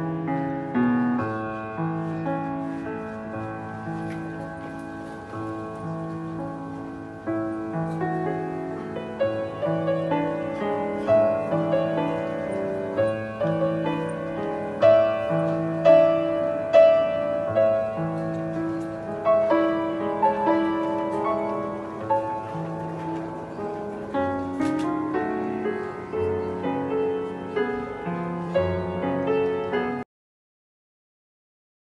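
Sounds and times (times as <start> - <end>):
solo piano: 0.0 - 30.1.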